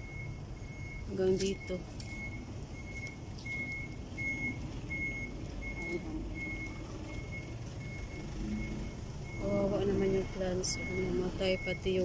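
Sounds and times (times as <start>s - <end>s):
low engine rumble: 0.0s - 12.0s
reversing alarm beeping: 0.0s - 12.0s.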